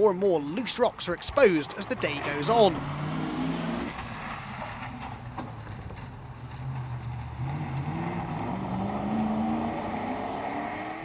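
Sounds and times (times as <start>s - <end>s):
tyres on rocky track: 0.0s - 11.0s
rally car engine revving: 0.6s - 11.0s.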